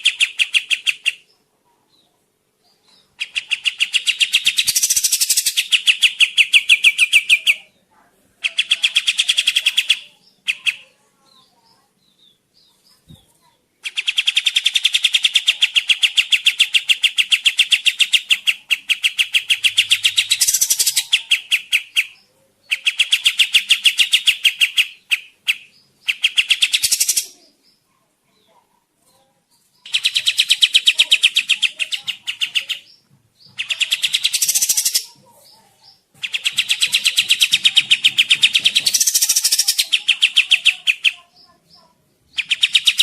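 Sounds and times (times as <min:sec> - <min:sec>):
bird chattering trills: 0:03.0 - 0:07.7, 0:08.4 - 0:13.1, 0:13.8 - 0:28.6, 0:29.8 - 0:43.0.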